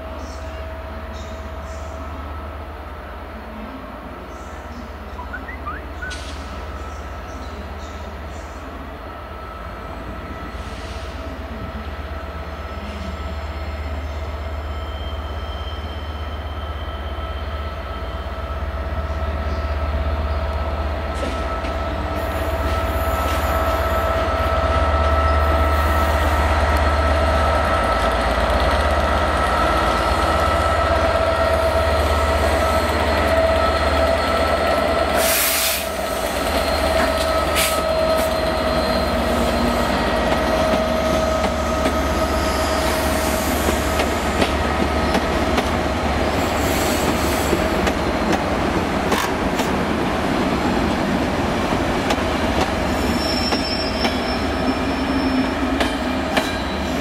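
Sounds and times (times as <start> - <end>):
diesel locomotive engine rumble: 0.0 - 57.0
high locomotive whine: 0.0 - 57.0.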